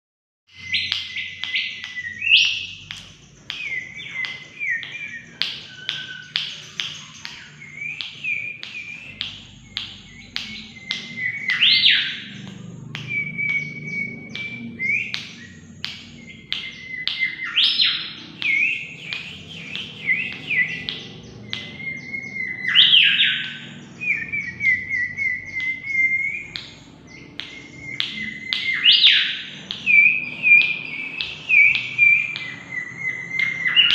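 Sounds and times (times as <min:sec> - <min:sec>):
bird singing whistled notes: 0:00.5 - 0:33.9.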